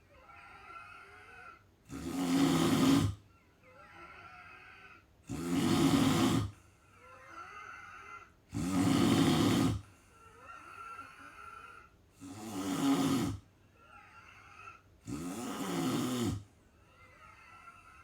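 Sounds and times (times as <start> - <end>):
person snoring: 0.2 - 3.2, 3.8 - 13.4, 14.2 - 16.5.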